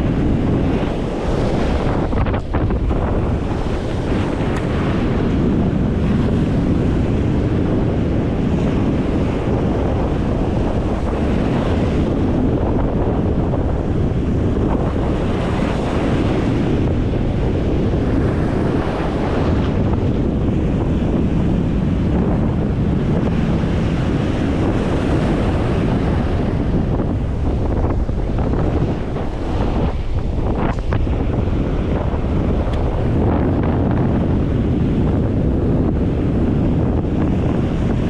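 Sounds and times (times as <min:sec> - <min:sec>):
ocean surf breaking: 0:00.0 - 0:38.0
wind buffeting microphone: 0:00.0 - 0:38.0.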